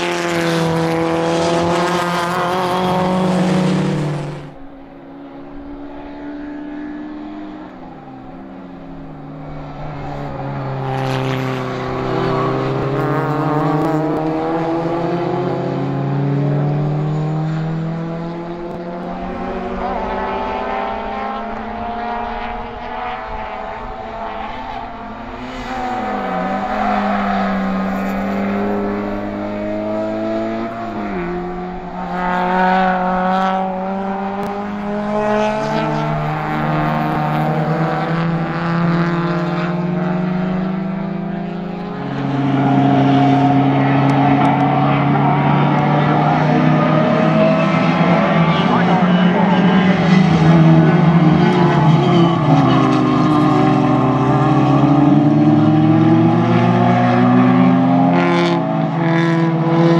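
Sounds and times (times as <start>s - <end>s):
racing car engines changing gear: 0.0s - 4.6s, 6.8s - 59.9s.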